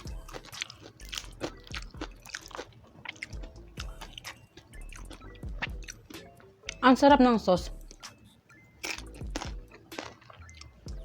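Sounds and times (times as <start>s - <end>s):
crunchy chewing: 0.0s - 6.8s, 7.8s - 11.0s.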